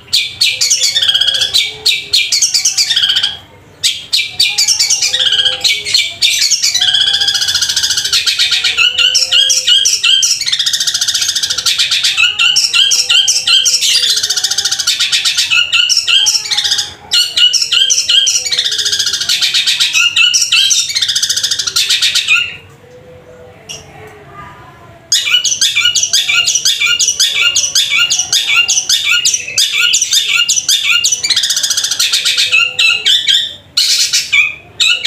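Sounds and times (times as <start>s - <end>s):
bird singing harsh chattering song: 0.0s - 22.7s, 25.1s - 35.0s.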